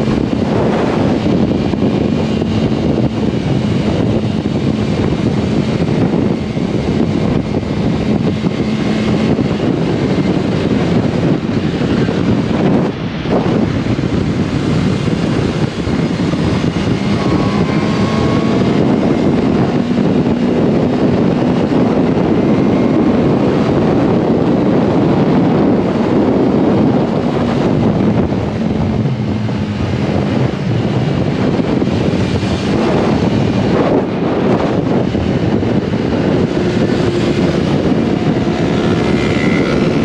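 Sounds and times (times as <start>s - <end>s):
motorcycle engine at speed: 0.0s - 40.0s
wind rush on microphone: 0.0s - 40.0s.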